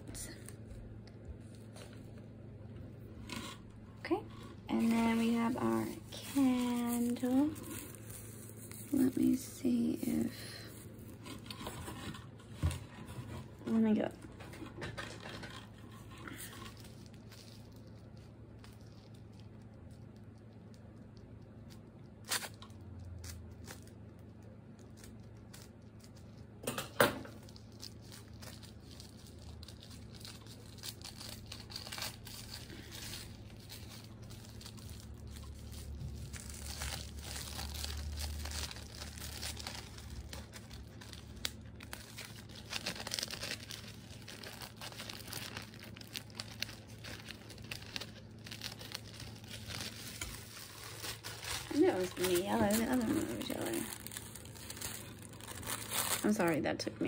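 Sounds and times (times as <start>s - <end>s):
paper crinkling and tearing: 3.1s - 56.6s.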